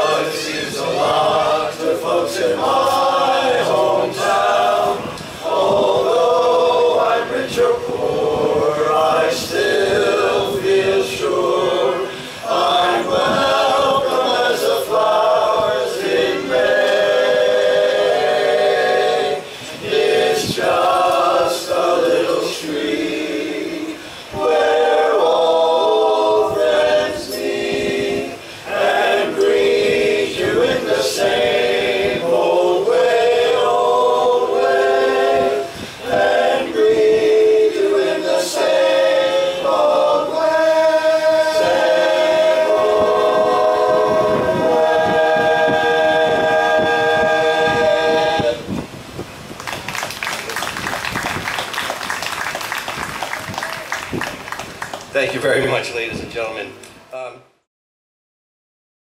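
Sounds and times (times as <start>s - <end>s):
men's chorus singing a cappella: 0.0s - 49.1s.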